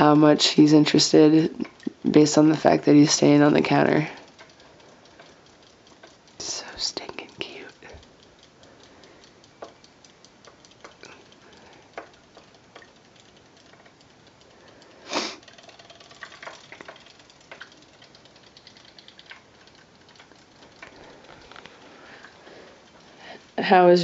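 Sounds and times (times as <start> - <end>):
rapid mechanical ticking: 0.0 - 24.0.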